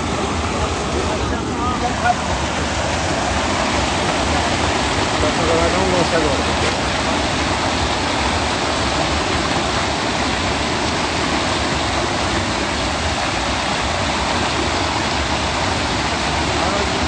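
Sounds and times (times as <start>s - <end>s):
floodwater rushing and spilling: 0.0s - 17.0s.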